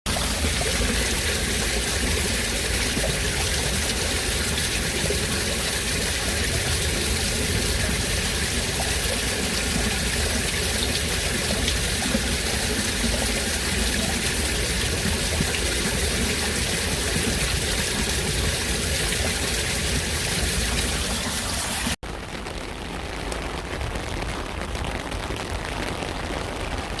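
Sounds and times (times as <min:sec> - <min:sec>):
steady rain falling: 0:00.1 - 0:27.0.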